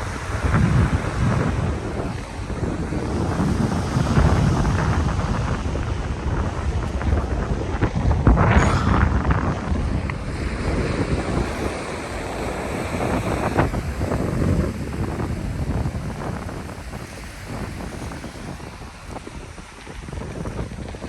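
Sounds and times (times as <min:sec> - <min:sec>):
ocean surf washing ashore: 0:00.0 - 0:21.0
wind buffeting microphone: 0:00.0 - 0:21.0.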